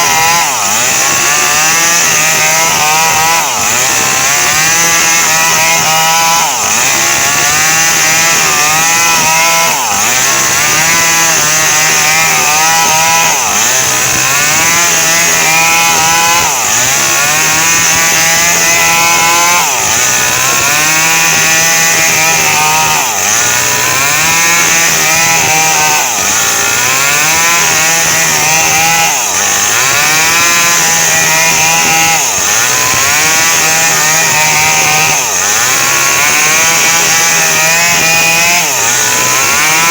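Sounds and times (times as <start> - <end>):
chainsaw sawing wood: 0.0 - 39.9.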